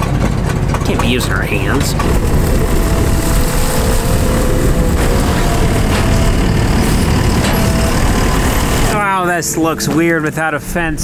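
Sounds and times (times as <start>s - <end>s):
diesel engine running loudly: 0.0s - 11.0s.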